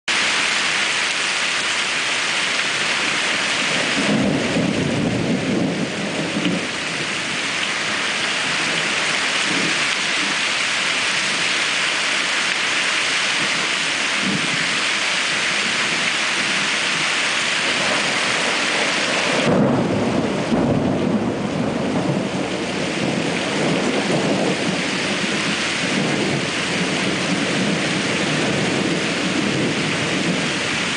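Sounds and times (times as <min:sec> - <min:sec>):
heavy rain hissing: 0:00.1 - 0:30.9
thunder rumbling: 0:02.4 - 0:30.9.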